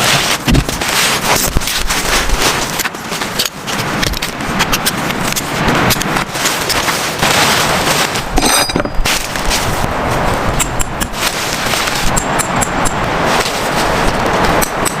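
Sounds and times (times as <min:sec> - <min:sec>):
heavy rain falling: 0:00.0 - 0:08.4, 0:09.0 - 0:15.0.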